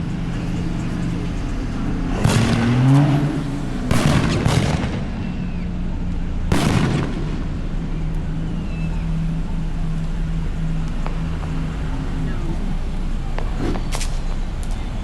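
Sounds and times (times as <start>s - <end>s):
car humming in traffic: 0.0s - 15.0s.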